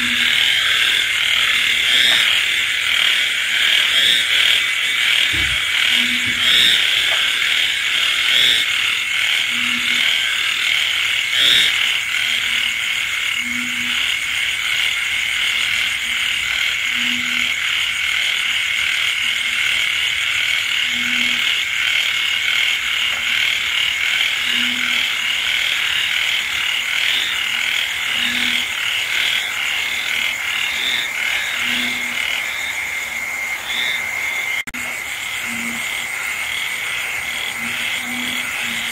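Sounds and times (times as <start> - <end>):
insects trilling: 0.0 - 38.9
low frog calls: 0.0 - 38.9.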